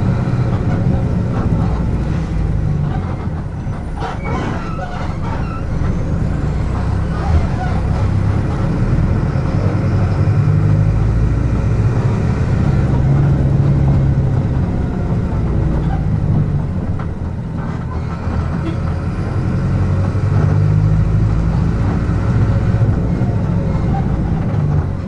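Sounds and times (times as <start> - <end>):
bus diesel engine running: 0.0 - 25.0.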